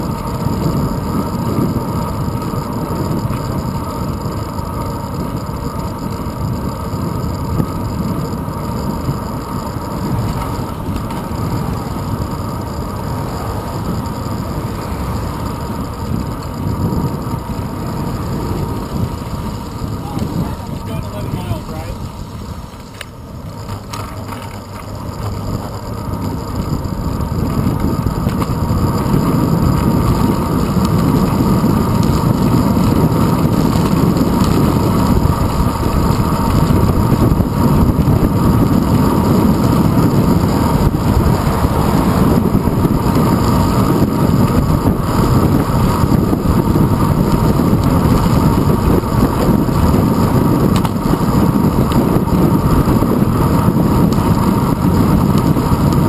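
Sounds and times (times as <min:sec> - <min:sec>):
wind rushing over camera: 0:00.0 - 0:56.0.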